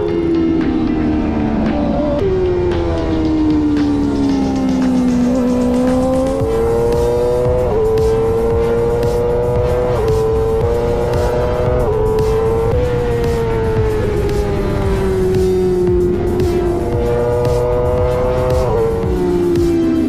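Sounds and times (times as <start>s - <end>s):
racing motorcycle engine: 0.0s - 20.0s.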